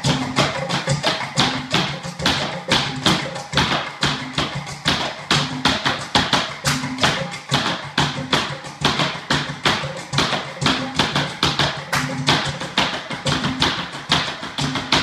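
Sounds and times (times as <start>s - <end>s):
dance shoes tapping on wooden floor: 0.4s - 15.0s.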